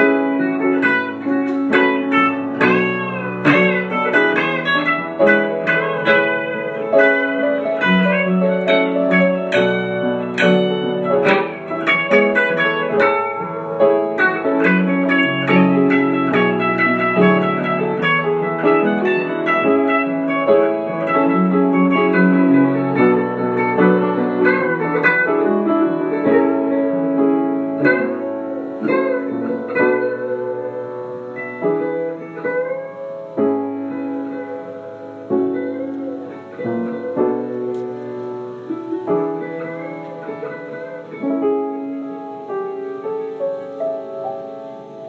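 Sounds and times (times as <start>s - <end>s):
plucked guitar: 0.0s - 45.0s.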